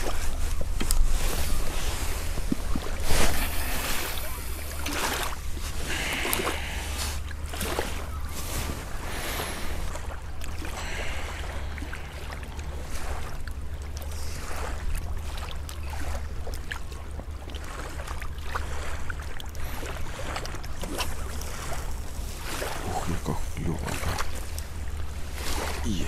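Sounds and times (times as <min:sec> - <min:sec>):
water lapping: 0:00.0 - 0:26.0.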